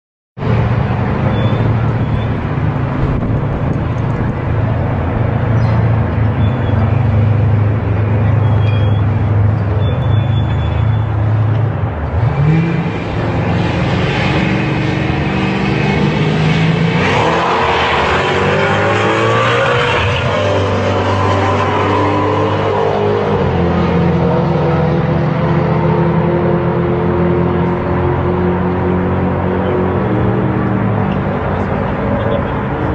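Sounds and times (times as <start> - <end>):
car engines accelerating hard: 0.4 - 32.9.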